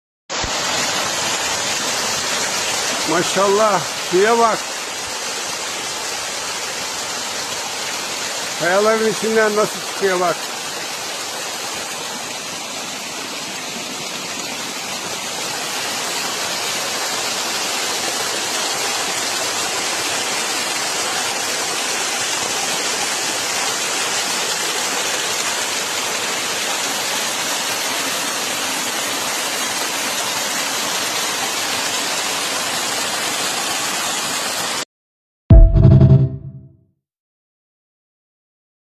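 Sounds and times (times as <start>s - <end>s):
water gushing from rocks: 0.3s - 34.8s.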